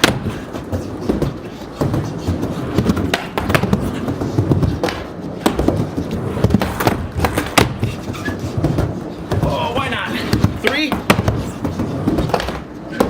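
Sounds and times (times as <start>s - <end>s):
skateboard clacking and landing: 0.0s - 13.0s
skateboard wheels rumbling: 0.0s - 13.0s.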